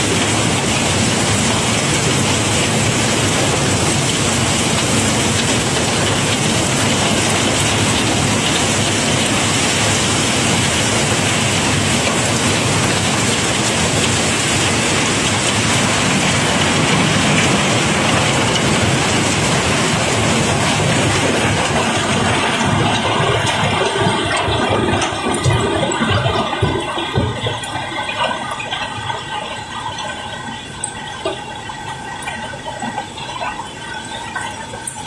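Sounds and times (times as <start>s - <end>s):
rocks pouring and clattering: 0.2s - 35.0s.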